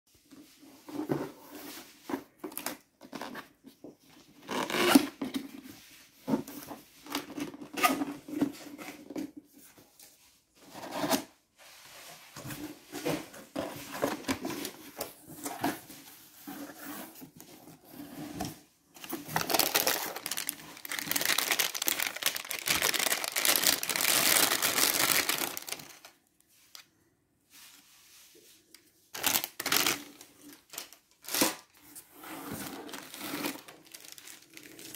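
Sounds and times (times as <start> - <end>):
rustling and scraping packing: 0.3 - 26.9, 28.6 - 34.9.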